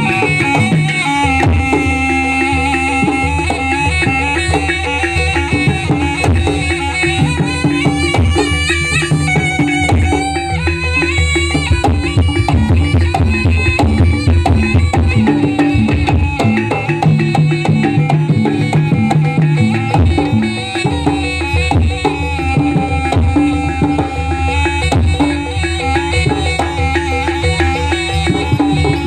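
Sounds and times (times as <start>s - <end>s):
gamelan ensemble playing: 0.0s - 29.0s
hand drums driving rhythm: 0.0s - 29.0s.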